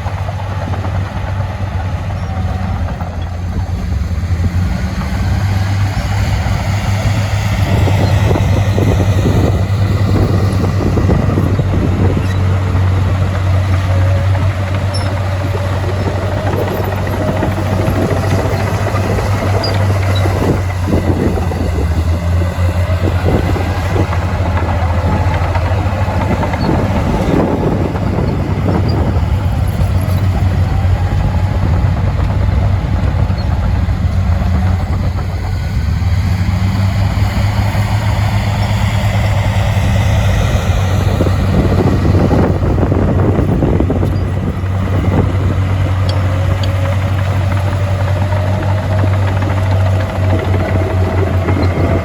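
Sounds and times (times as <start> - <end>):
diesel earthmoving machinery running: 0.0 - 52.0.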